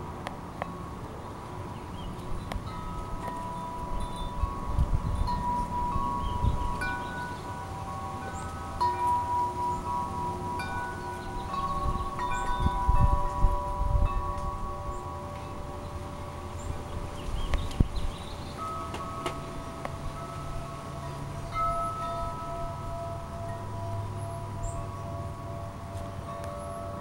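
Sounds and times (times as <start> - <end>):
wind chimes ringing: 0.0 - 27.0
wind rumble on microphone: 0.0 - 27.0.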